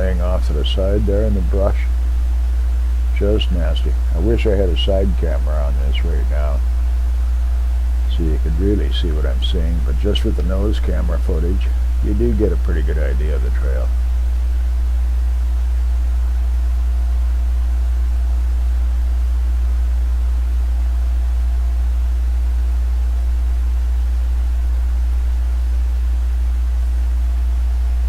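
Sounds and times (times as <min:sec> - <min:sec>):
loud low hum: 0:00.0 - 0:28.0.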